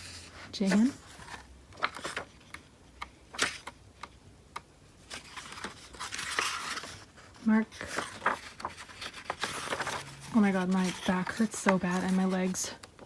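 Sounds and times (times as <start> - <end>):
soft paper rustle: 0.0 - 4.1, 5.0 - 13.0
diary pages leafed through: 0.0 - 13.0.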